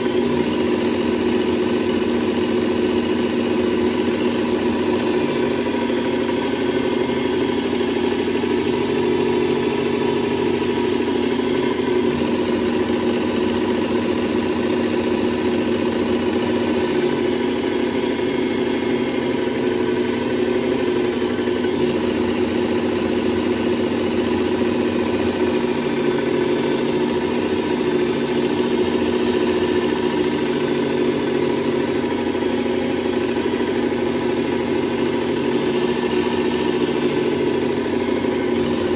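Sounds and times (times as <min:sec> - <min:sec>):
belt sharpener motor hum: 0:00.0 - 0:38.9
blade grinding on belt: 0:00.0 - 0:38.9.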